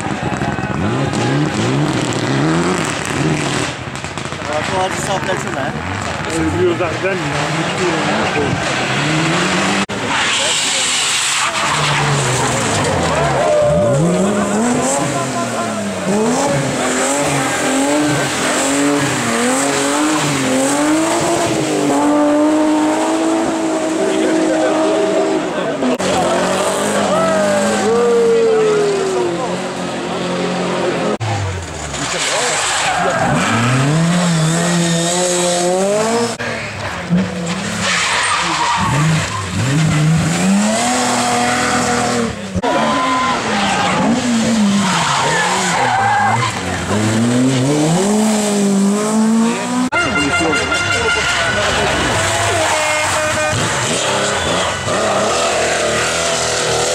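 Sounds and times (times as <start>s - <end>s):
rally car engine revving: 0.0s - 56.9s
tyre and road noise: 0.0s - 56.9s.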